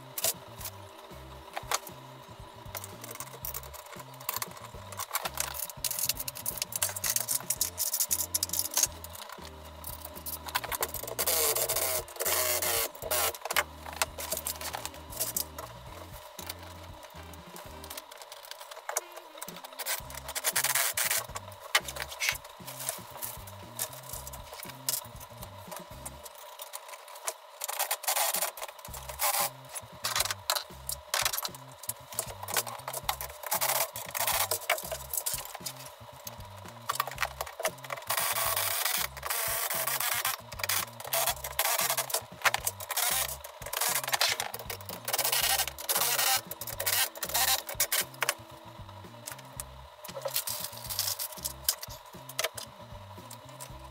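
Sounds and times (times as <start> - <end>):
music with bouncy bass line: 0.0 - 18.1, 19.0 - 26.3, 28.8 - 53.9
clicks and rattles of parts: 2.7 - 15.7, 17.9 - 48.4, 50.0 - 52.7.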